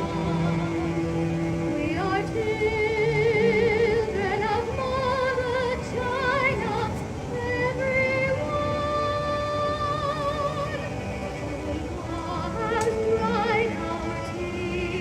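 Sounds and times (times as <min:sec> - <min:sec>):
high voice singing with vibrato: 0:00.0 - 0:15.0.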